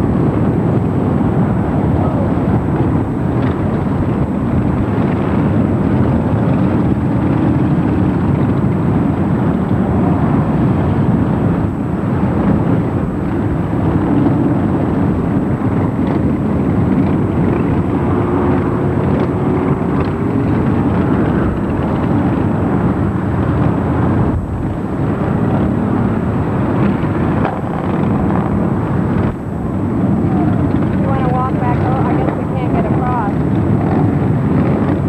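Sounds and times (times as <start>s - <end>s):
motorcycle engines rumbling: 0.0s - 35.0s.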